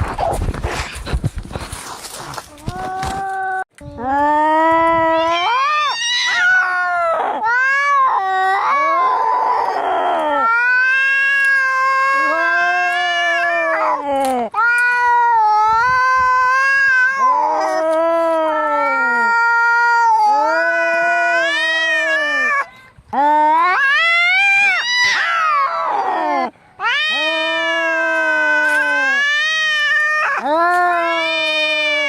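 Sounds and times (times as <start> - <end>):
cats yowling: 4.2 - 22.7, 23.3 - 32.0.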